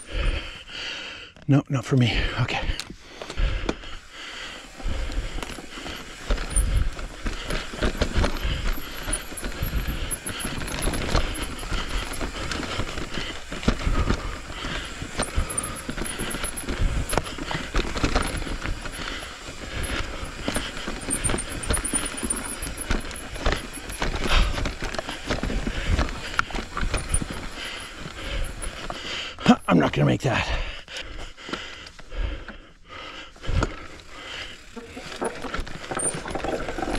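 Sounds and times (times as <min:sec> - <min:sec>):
bike knocking and rattling: 0:02.7 - 0:29.8, 0:33.3 - 0:36.9
bike tyres rolling over dirt: 0:02.9 - 0:29.8, 0:33.0 - 0:36.9.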